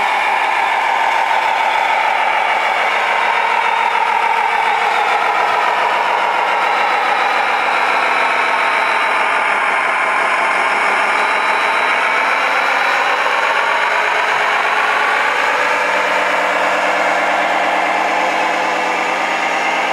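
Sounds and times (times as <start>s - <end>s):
toy truck motor running: 0.0s - 19.9s.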